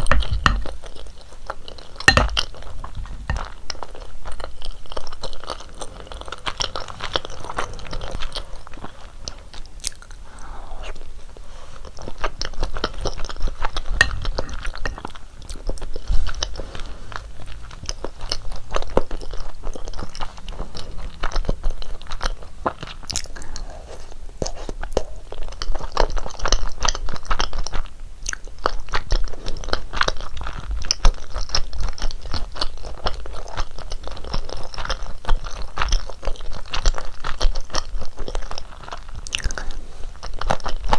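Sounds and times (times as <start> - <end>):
wet chewing mouth sounds: 0.0 - 40.9.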